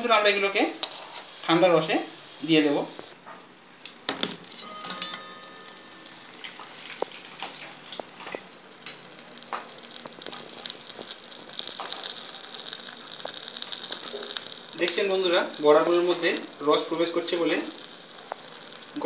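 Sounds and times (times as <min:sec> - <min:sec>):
fritters hissing and crackling in syrup: 0:00.0 - 0:19.0.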